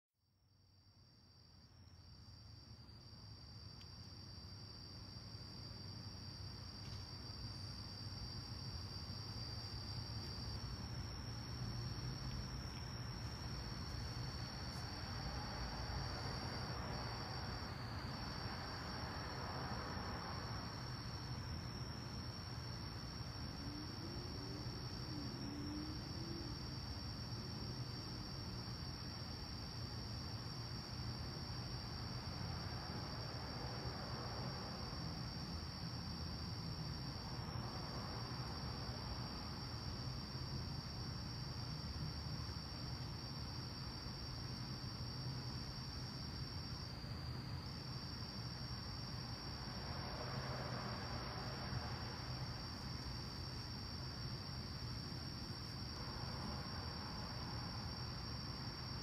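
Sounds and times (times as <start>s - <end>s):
crickets trilling: 1.0s - 59.0s.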